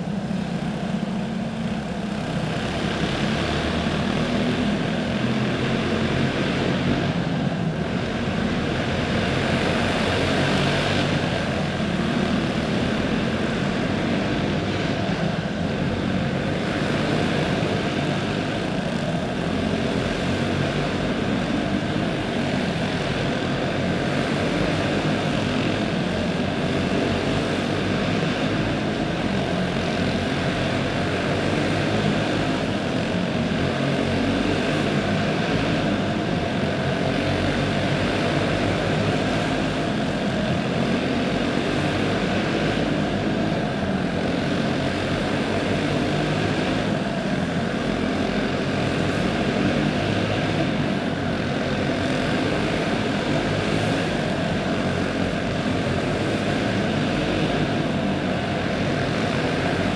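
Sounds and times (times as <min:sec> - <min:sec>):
racing kart engines droning: 0:00.0 - 0:59.9.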